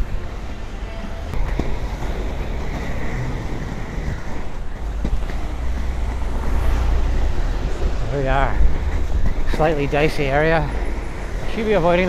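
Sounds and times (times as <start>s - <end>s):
skate wheels rumbling on pavement: 0.0s - 12.0s
wind buffeting microphone: 0.0s - 12.0s.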